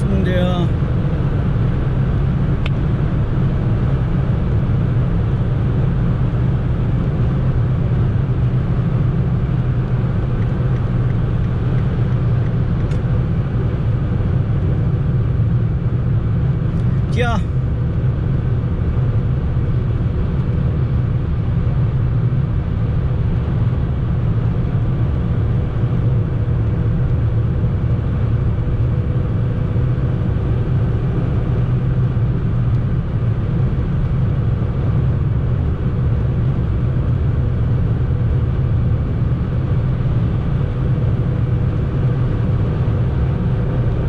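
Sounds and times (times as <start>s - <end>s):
car interior road drone: 0.0s - 44.0s.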